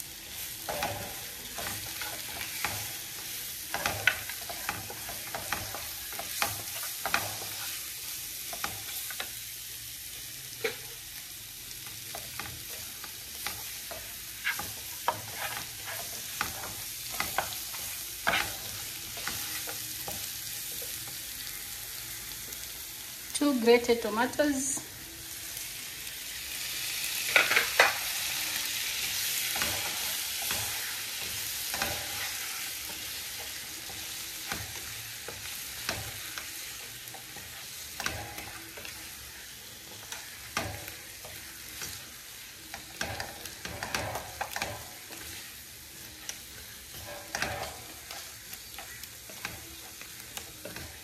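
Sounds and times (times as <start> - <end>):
meat and vegetables sizzling in pan: 0.0 - 51.0.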